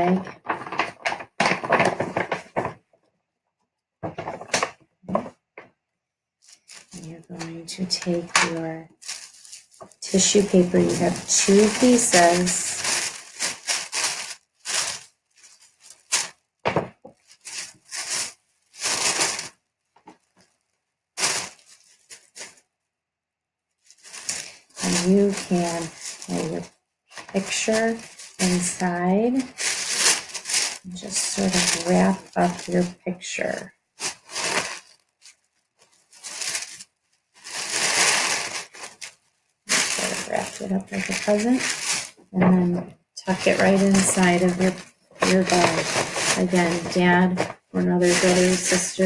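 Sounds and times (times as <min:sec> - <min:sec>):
tissue paper rustling and crinkling: 0:00.0 - 0:02.8, 0:04.0 - 0:05.3, 0:06.4 - 0:22.6, 0:23.8 - 0:49.0.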